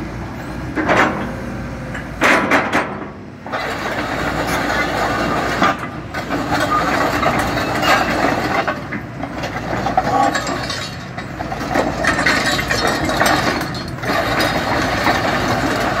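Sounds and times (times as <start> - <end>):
excavator engine rumble: 0.0 - 16.0
steel tracks clanking on concrete: 0.7 - 16.0.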